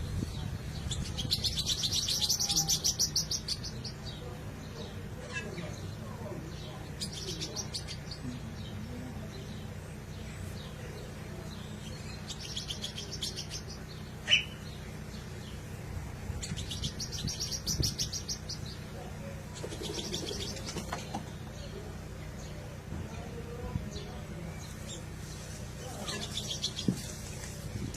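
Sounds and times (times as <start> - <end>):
steady low hum: 0.0 - 27.9
bird chirping: 0.1 - 15.8, 16.4 - 27.6.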